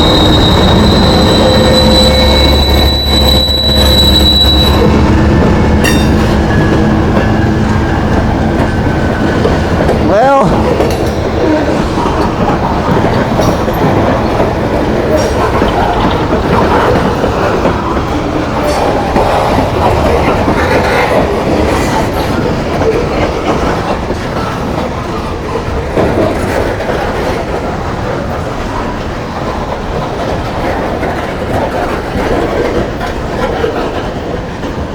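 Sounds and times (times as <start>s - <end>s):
freight train wheel and rail noise: 0.0s - 34.9s
wheels clacking over rail joints: 0.0s - 34.9s.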